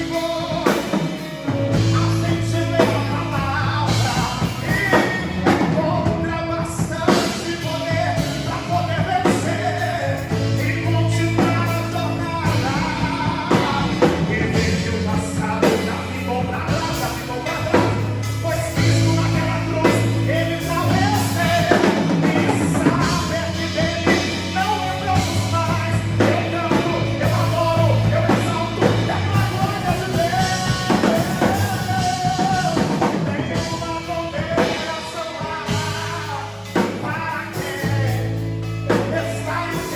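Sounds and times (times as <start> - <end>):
drum kit: 0.0 - 39.9
gospel band playing: 0.0 - 39.9
person singing melody: 0.0 - 39.9.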